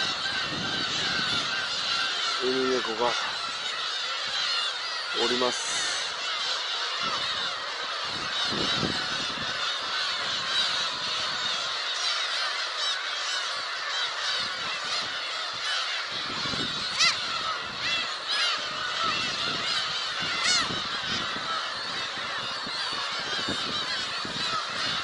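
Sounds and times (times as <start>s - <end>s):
gulls mewing calls: 0.0s - 25.0s.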